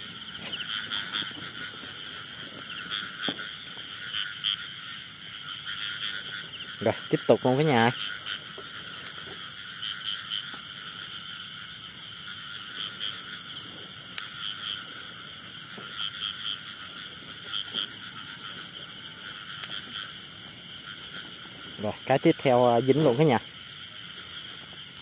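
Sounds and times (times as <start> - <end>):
chorus of frogs calling: 0.0 - 25.0.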